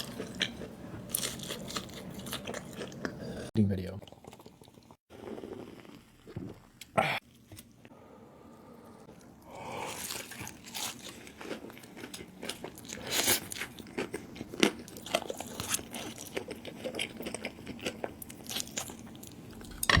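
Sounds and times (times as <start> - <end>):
crunchy eating: 0.0 - 6.6, 9.1 - 19.9.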